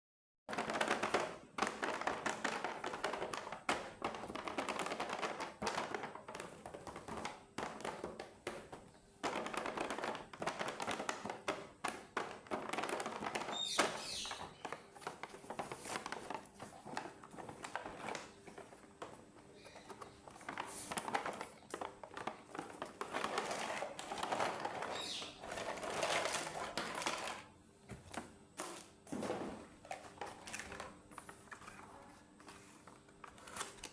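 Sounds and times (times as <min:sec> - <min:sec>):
plastic toys and packaging handled: 0:00.5 - 0:33.9.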